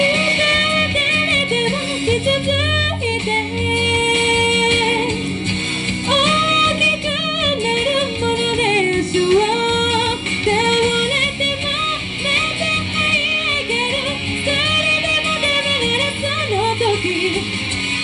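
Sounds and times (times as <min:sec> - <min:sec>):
backing music: 0:00.0 - 0:18.0
woman singing into a microphone: 0:00.0 - 0:18.0.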